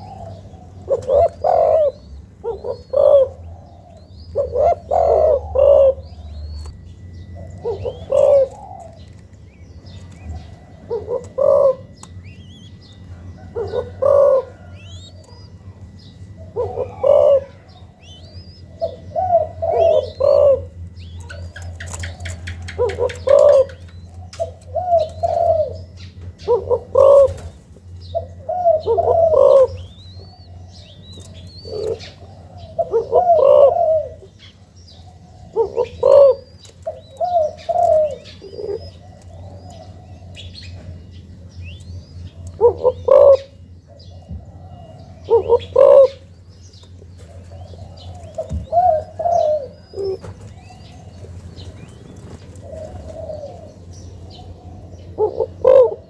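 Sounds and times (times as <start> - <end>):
doves cooing: 0.0 - 56.0
low steady hum: 0.0 - 56.0
small birds chirping faintly: 0.0 - 56.0.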